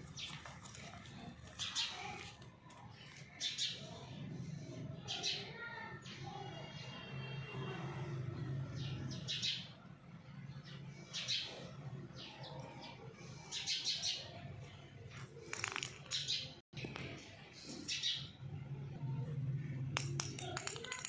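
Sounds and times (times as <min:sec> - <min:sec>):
small birds chirping: 0:00.0 - 0:06.9, 0:10.4 - 0:21.0.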